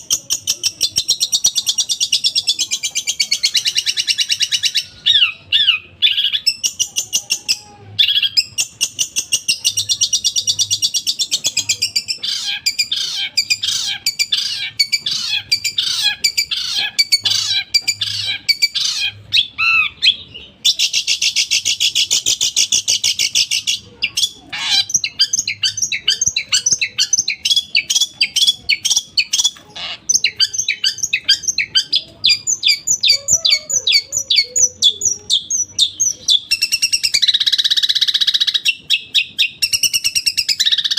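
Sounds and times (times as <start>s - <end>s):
shrike singing rapid trills: 0.0s - 40.9s.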